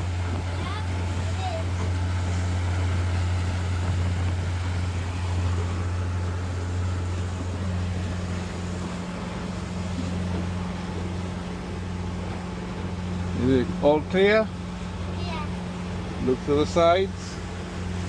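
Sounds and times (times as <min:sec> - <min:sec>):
vehicle engine running steadily: 0:00.0 - 0:18.0.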